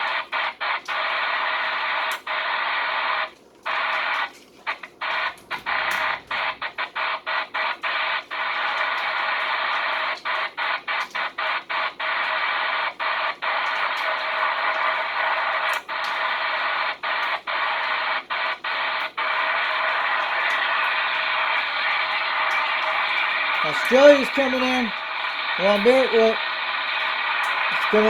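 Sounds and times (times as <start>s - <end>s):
radio static hissing: 0.0s - 28.0s.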